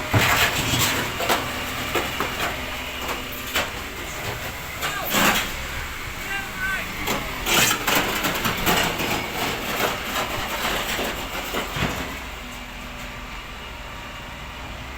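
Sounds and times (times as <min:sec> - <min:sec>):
garbage truck clattering and banging: 0:00.0 - 0:14.6
engine hum: 0:00.0 - 0:14.9.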